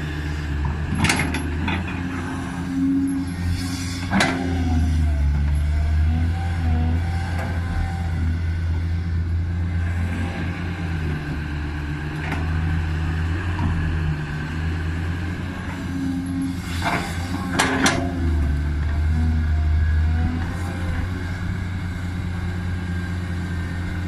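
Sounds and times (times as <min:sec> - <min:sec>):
excavator diesel engine under load: 0:00.0 - 0:24.0.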